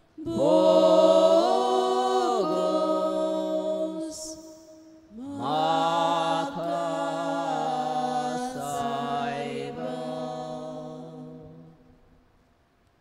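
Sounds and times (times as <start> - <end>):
voices chanting held note: 0.0 - 11.9.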